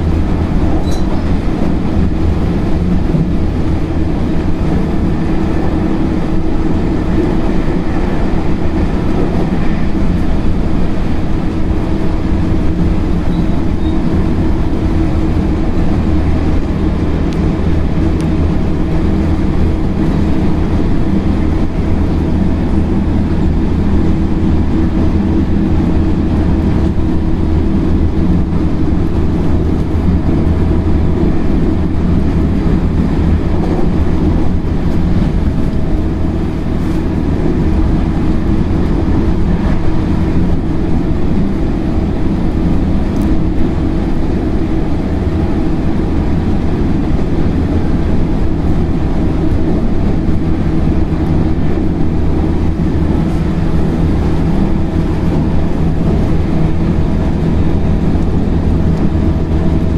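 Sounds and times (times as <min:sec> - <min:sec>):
train motor hum: 0:00.0 - 0:59.9
train wheels rumbling on rail: 0:00.0 - 0:59.9.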